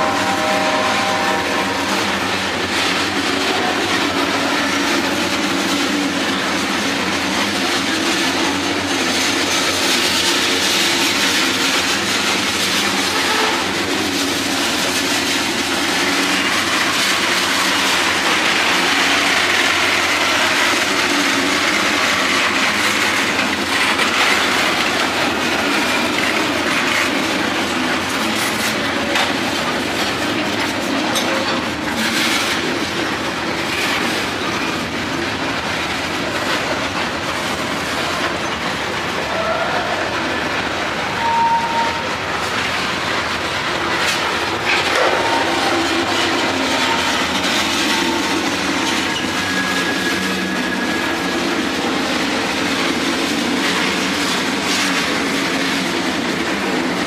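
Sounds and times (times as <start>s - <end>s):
train wheels running on rails: 0.0s - 57.0s.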